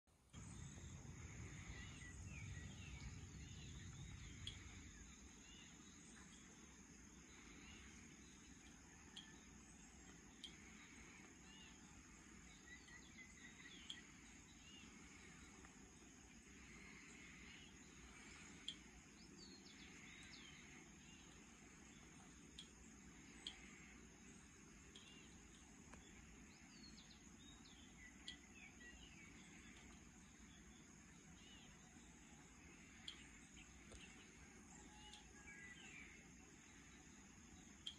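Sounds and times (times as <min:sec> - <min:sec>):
distant birds chirping: 0:00.3 - 0:37.9.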